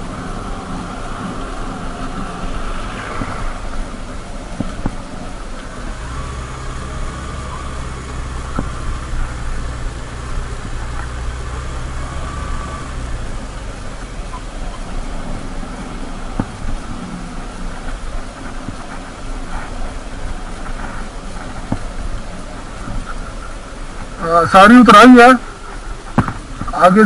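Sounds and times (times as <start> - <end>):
motorcycle engine running: 0.0 - 24.2
wind and road noise: 0.0 - 27.0.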